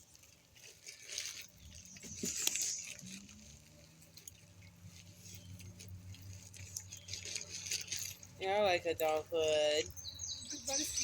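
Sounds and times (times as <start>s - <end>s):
soft rustling: 0.0s - 9.9s.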